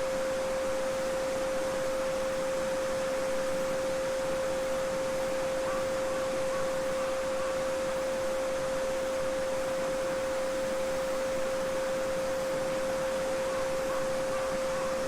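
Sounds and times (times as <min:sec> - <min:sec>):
pure sine tone: 0:00.0 - 0:15.0.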